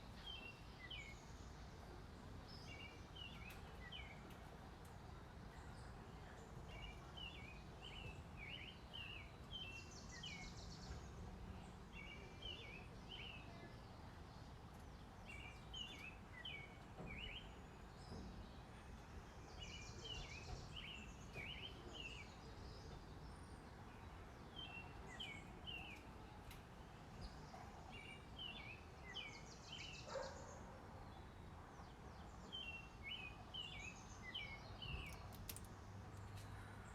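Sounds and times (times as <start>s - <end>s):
outdoor background hiss: 0.0s - 36.9s
songbird chirping: 0.0s - 36.9s.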